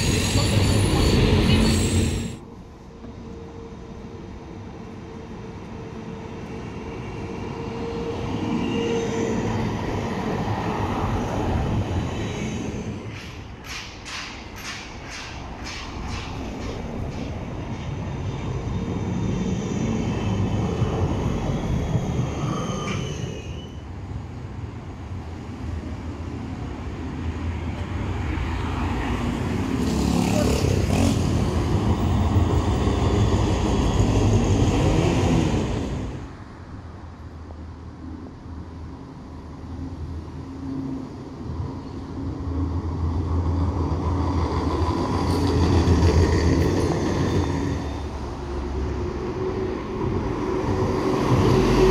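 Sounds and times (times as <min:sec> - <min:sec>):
road traffic: 0:00.0 - 0:51.9
trams passing: 0:00.0 - 0:51.9.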